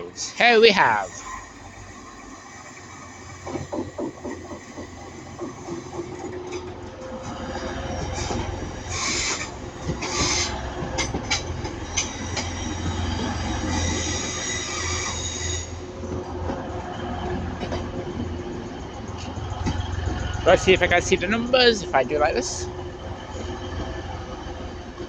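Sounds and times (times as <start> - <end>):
high wheel squeal: 0.0 - 25.0
train engine hum: 0.0 - 25.0
wheels clicking over rail joints: 0.0 - 25.0.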